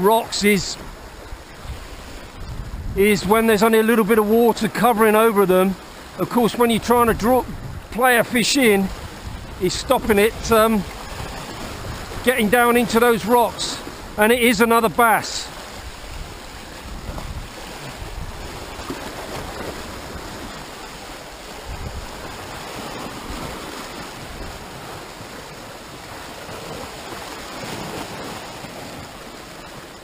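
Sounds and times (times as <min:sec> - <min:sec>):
surf breaking over rocks: 0:00.0 - 0:30.0.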